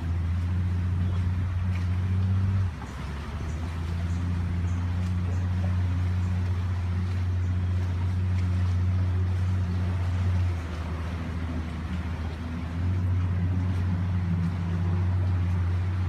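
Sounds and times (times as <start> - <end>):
outboard motor humming: 0.0 - 16.0.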